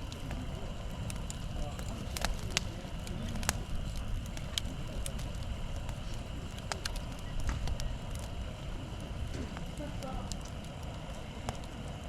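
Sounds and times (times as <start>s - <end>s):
campfire crackling and popping: 0.0s - 12.0s
low steady rumble: 0.0s - 12.0s.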